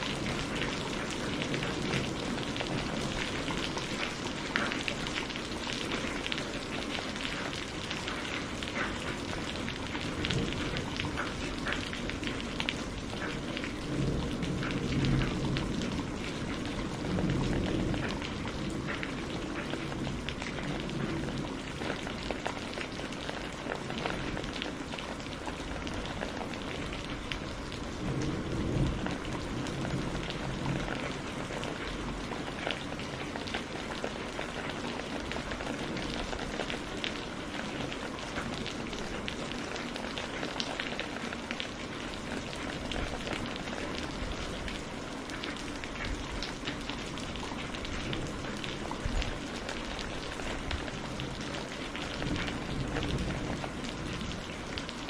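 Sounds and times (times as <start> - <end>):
low rumble of thunder: 0.0 - 41.0, 45.6 - 55.0
rain drops pattering: 0.0 - 55.0.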